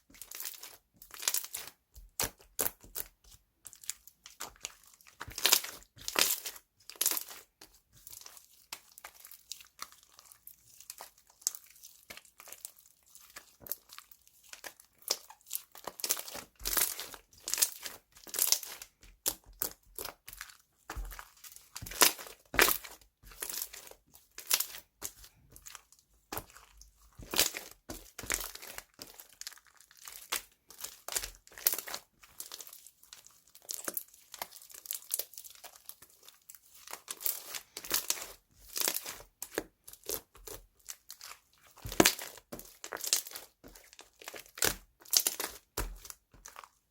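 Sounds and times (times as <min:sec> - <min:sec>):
slime crackling and popping: 0:00.2 - 0:03.1, 0:03.8 - 0:46.8.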